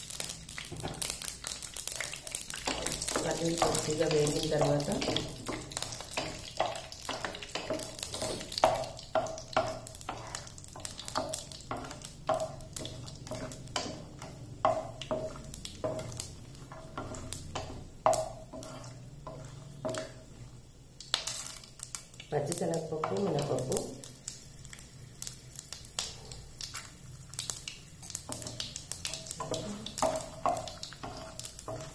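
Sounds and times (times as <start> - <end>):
oil sizzling: 0.0 - 31.9
spatula scraping and tapping pan: 0.2 - 31.9.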